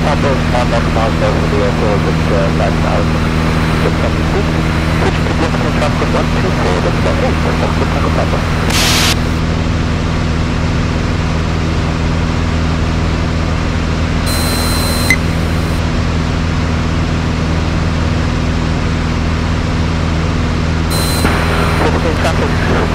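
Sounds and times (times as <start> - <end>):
propeller plane engine droning: 0.0 - 22.9.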